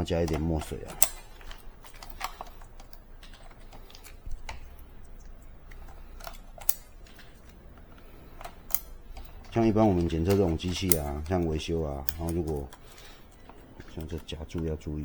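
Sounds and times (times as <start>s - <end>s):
light clicks and taps of parts: 0.0s - 15.0s
low steady room hum: 0.0s - 15.0s.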